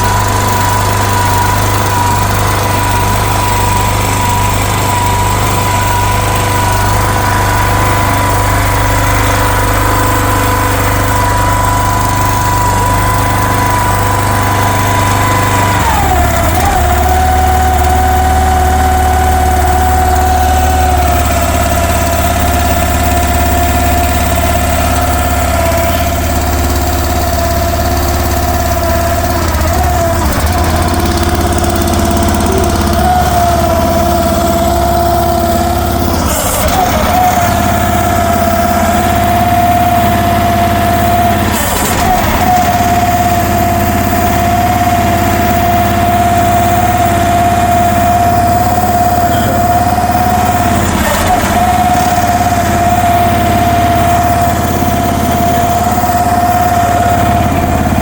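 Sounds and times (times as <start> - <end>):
high whine: 0.0 - 58.0
small excavator engine running: 0.0 - 58.0.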